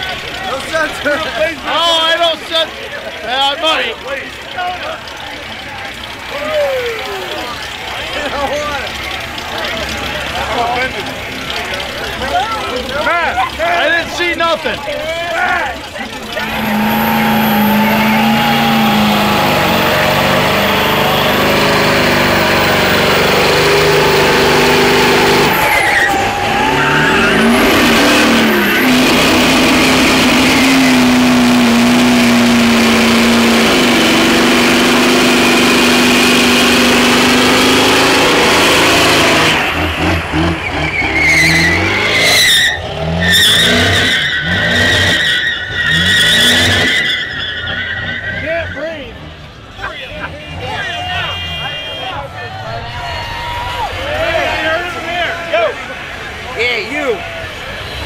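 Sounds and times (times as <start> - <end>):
tyres spinning: 0.0 - 50.9
truck engine revving: 0.0 - 58.0.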